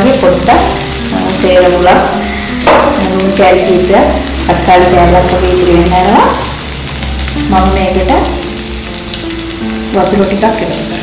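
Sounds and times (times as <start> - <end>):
aromatics sizzling in oil: 0.0 - 11.0
background music: 0.0 - 11.0.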